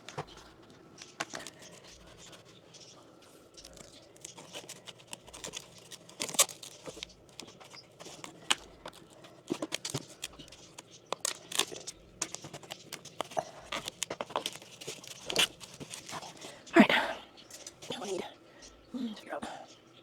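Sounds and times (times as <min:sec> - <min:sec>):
tools clicking and scraping: 0:00.0 - 0:16.7
light rustling: 0:00.0 - 0:16.8.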